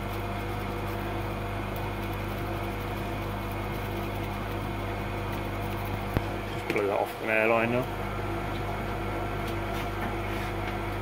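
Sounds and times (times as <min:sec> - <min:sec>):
low hum with overtones: 0:00.0 - 0:11.0.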